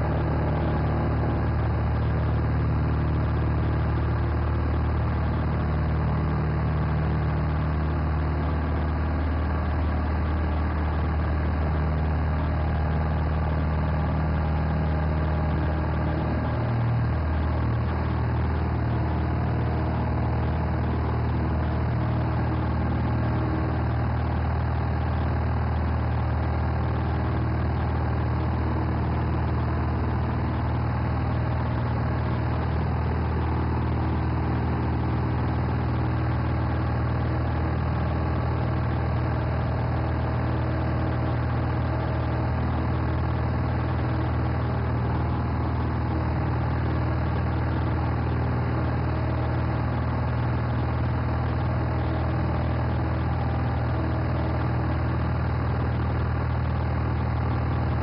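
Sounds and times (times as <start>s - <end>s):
propeller engine drone: 0.0s - 58.0s.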